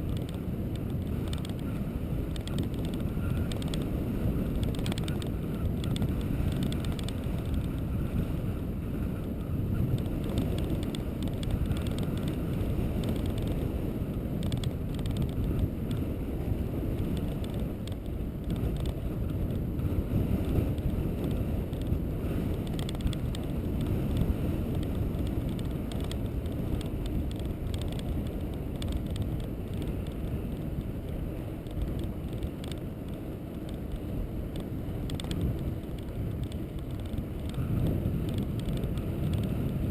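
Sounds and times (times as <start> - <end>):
faint ticks: 0.0 - 16.1, 16.9 - 39.9
vehicle road noise: 0.0 - 39.9
wind rumble on microphone: 0.0 - 39.9.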